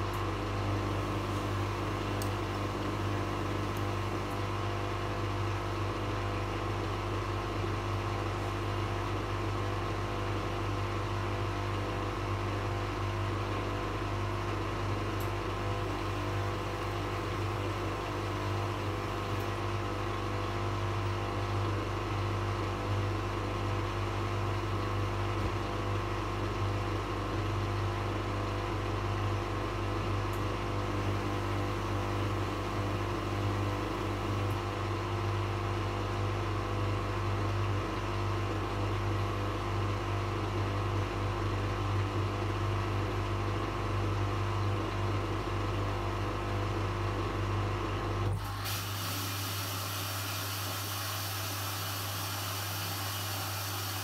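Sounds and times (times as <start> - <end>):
washing machine drain pump running: 0.0 - 54.0.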